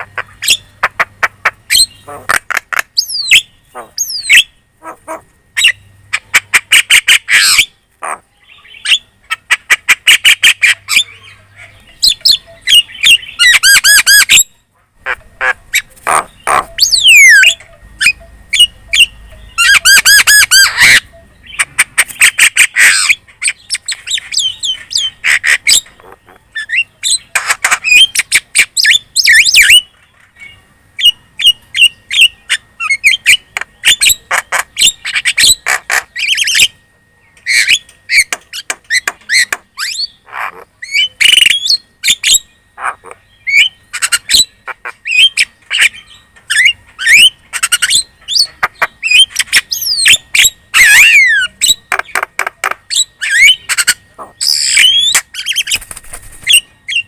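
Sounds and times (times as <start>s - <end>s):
bird chattering and whistling: 0.0s - 57.0s.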